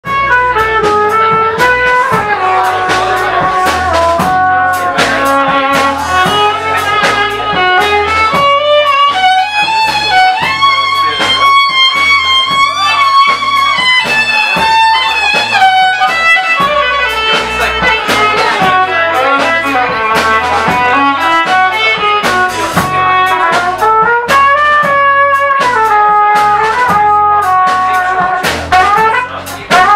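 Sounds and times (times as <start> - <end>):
bass: 0.0 - 29.9
drums: 0.0 - 29.9
trumpet melody: 0.0 - 29.9
violin: 0.0 - 29.9.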